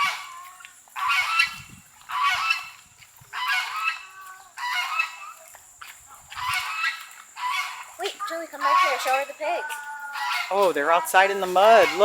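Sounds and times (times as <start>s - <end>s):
farm bird calling: 0.0s - 12.0s.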